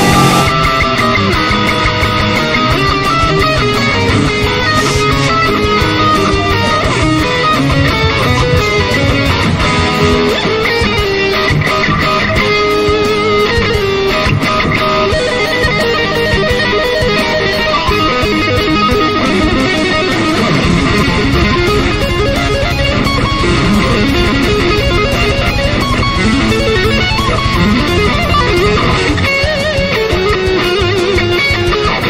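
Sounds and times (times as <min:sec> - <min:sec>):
guitar background music: 0:00.0 - 0:32.0.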